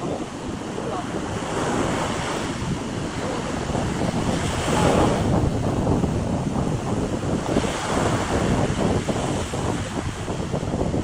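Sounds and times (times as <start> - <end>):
sea waves washing onto beach: 0.0 - 11.0
wind on microphone: 0.0 - 11.0.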